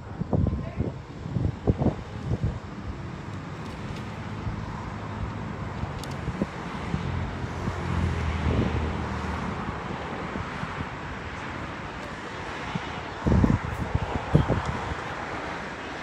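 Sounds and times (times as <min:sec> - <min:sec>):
distant road traffic: 0:00.0 - 0:16.0
wind on microphone: 0:00.0 - 0:16.0.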